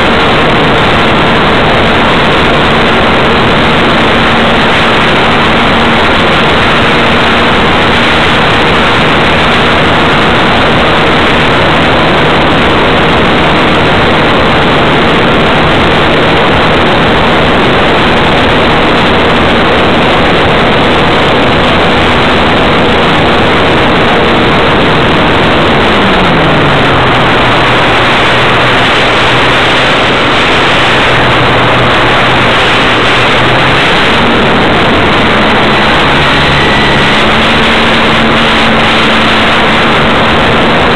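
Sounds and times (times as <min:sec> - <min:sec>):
model aircraft motor and propeller: 0:00.0 - 0:40.9.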